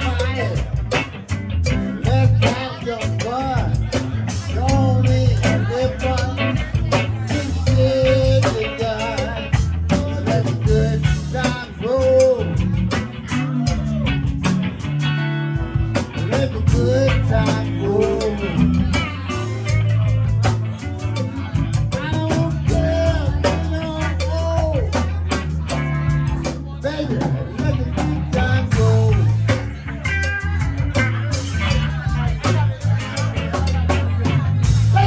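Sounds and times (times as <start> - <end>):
blues band playing: 0.0 - 35.0
drum kit steady beat: 0.0 - 35.0
electric guitar bending notes: 0.0 - 35.0.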